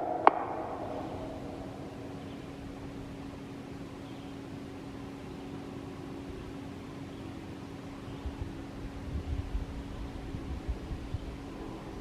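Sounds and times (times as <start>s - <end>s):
faint low hum: 0.0s - 12.0s
steady background hiss: 0.0s - 12.0s.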